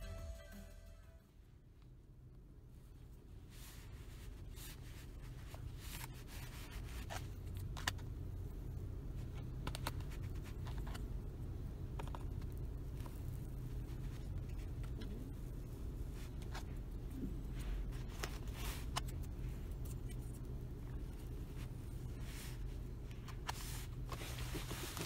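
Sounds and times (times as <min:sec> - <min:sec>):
low rumble in a car: 0:00.0 - 0:25.0.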